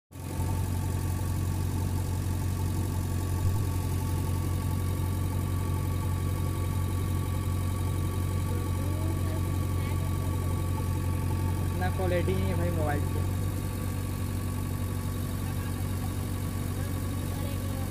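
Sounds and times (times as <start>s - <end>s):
diesel engine idling: 0.1s - 17.9s.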